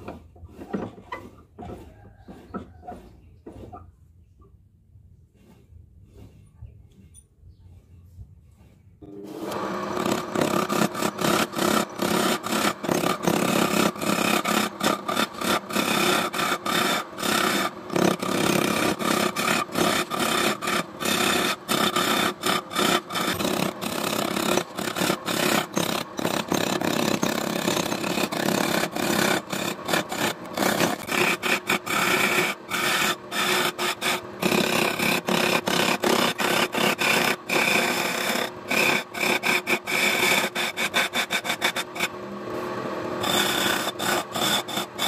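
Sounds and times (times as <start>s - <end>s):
chisel scraping wood on lathe: 0.0s - 4.0s, 5.2s - 45.0s.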